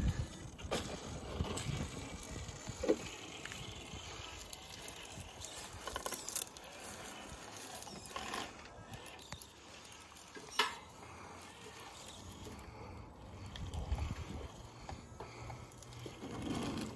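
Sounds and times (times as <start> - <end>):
toy car drivetrain whirring: 0.0 - 16.9.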